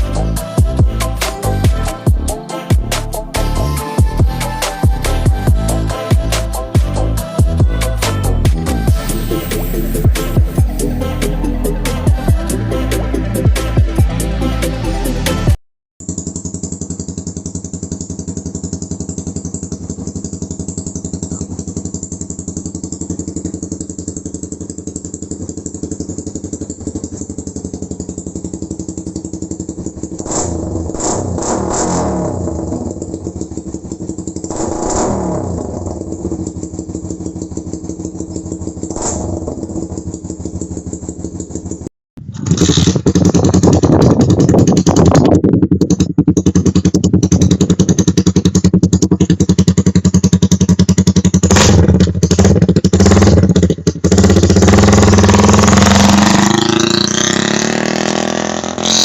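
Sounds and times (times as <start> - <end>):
engine throttle blips: 0.0 - 59.0
motorcycle engine idling: 0.0 - 59.0.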